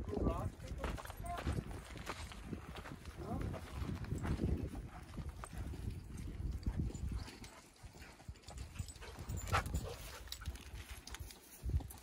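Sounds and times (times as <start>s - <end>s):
footsteps on sand and rock: 0.0s - 12.0s.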